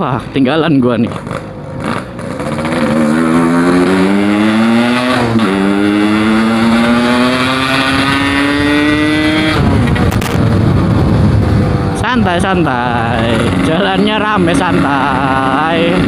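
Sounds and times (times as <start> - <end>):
motorcycle engine accelerating: 0.9 - 16.0.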